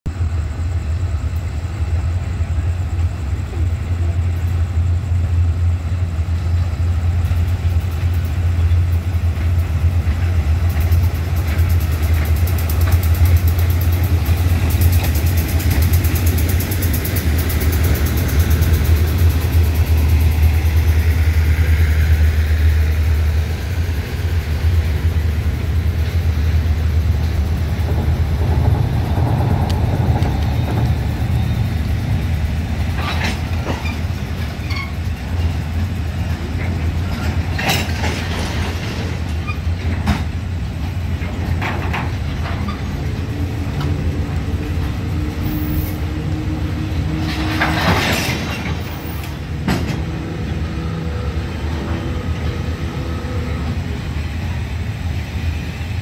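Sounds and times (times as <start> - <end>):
locomotive engine drone: 0.0 - 56.0
train wheel noise: 0.0 - 56.0.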